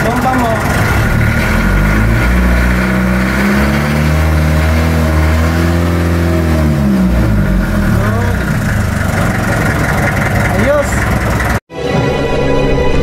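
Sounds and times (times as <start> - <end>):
diesel engine revving: 0.0 - 11.6.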